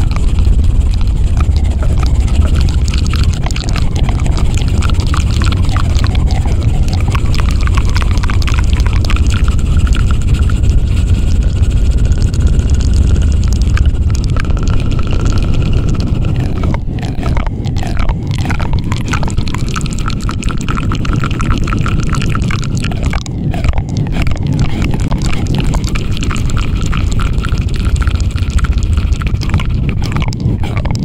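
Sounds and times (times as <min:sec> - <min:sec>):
close-up microphone rumble noise: 0:00.0 - 0:31.0.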